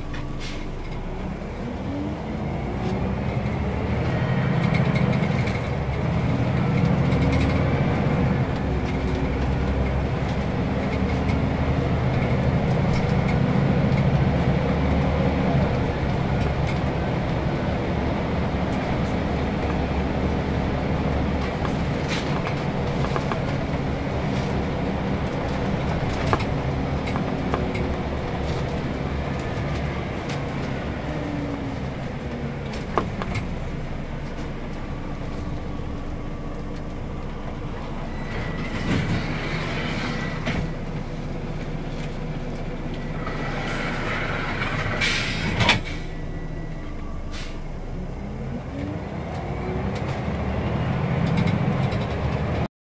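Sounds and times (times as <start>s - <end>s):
bus diesel engine running: 0.0s - 52.7s.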